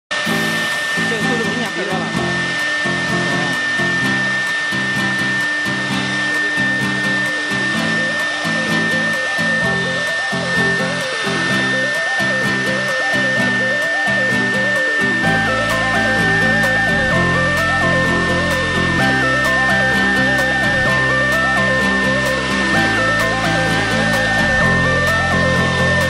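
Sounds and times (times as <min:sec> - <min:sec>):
background music with beat: 0:00.1 - 0:26.0
bit cutting wood: 0:00.1 - 0:26.0
router spindle whine: 0:00.1 - 0:26.0.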